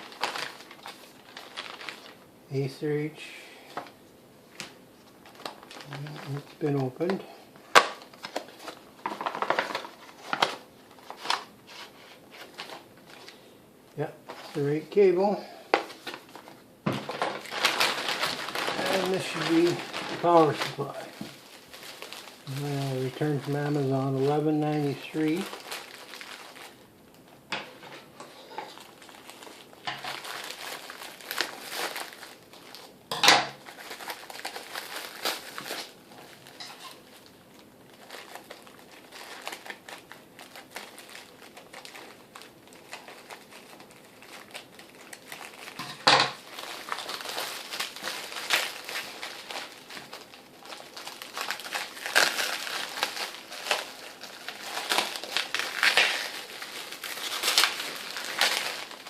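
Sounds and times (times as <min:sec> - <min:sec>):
plastic packaging crinkling: 0:00.0 - 0:03.1, 0:03.7 - 0:59.0.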